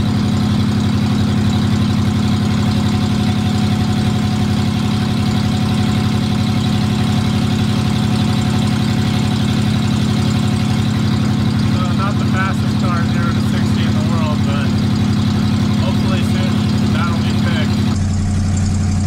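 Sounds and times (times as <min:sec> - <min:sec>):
engine exhaust drone: 0:00.0 - 0:19.0.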